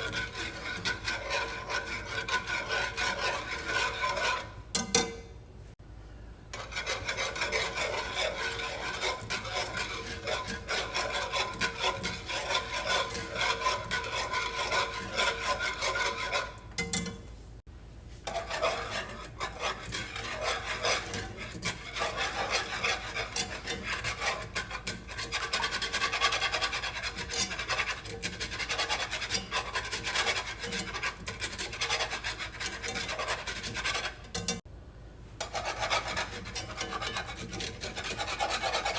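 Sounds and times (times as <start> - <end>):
whisk scraping a pan: 0.0 - 5.2, 6.5 - 17.4, 18.1 - 34.7, 35.4 - 38.9.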